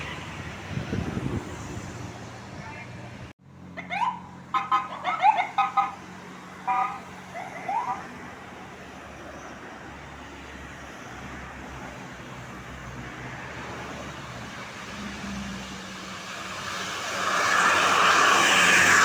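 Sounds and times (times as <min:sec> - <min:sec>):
roadside traffic noise: 0:00.0 - 0:19.0
vehicle approaching: 0:00.0 - 0:19.0.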